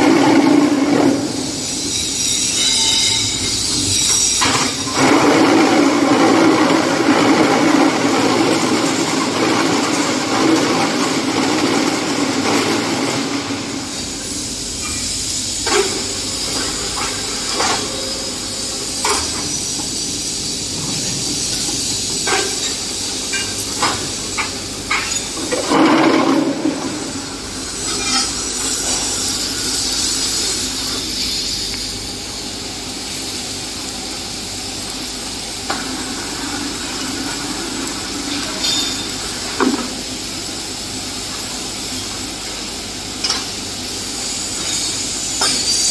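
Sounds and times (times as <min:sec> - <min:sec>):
machine hum and hiss: 0:00.0 - 0:45.9.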